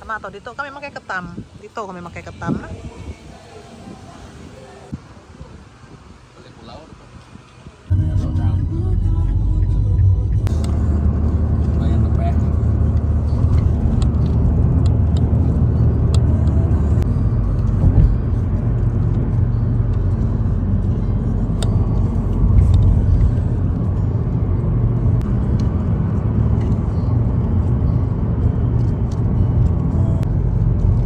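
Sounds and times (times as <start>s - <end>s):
car driving at road speed: 0.0s - 31.0s.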